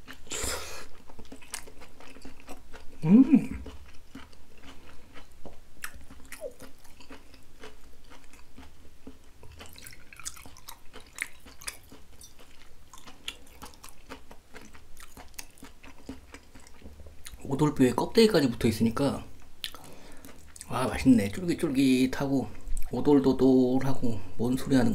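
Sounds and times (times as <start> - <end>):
close chewing mouth sounds: 0.0 - 17.7, 19.4 - 21.6, 22.4 - 23.0.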